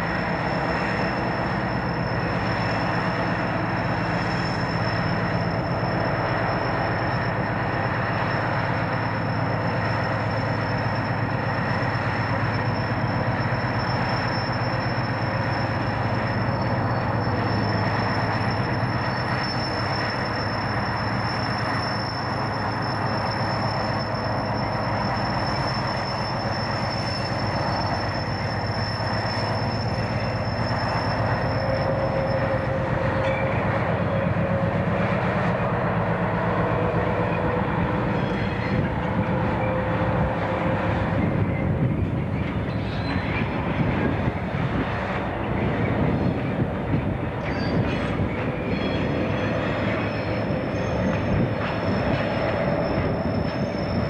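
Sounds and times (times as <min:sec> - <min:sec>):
diesel locomotive engine running: 0:00.0 - 0:54.0
faint wheel squeal: 0:00.0 - 0:54.0.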